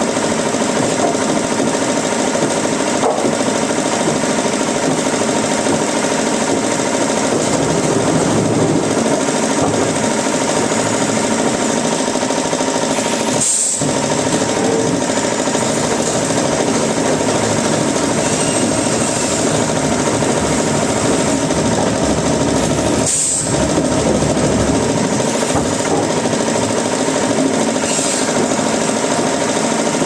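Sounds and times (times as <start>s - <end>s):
wood-cutting machinery running: 0.0s - 30.0s.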